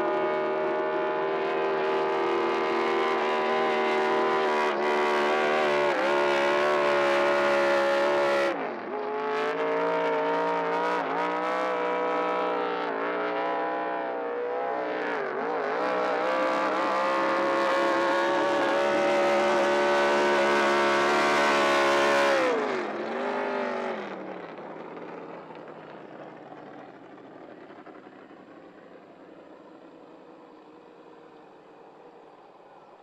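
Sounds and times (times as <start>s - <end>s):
powerboat engine at high revs: 0.0s - 26.9s.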